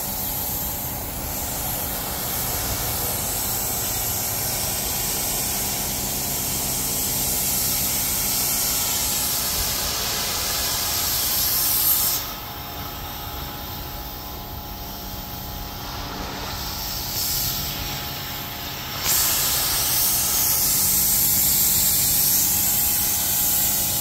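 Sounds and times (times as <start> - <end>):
pressure washer spraying: 0.0 - 12.4, 14.9 - 24.0.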